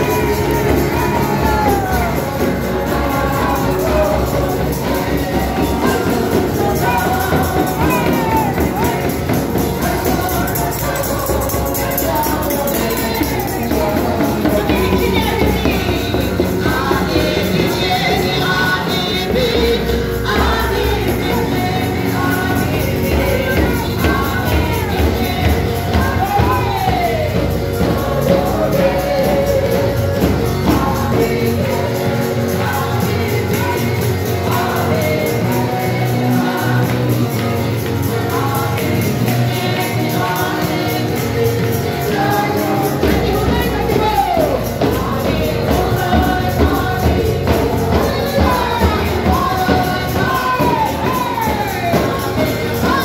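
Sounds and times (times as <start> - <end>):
large drum beat: 0.0 - 39.8, 42.7 - 53.0
congregation singing along: 0.0 - 53.0
woman singing through microphone: 0.0 - 53.0.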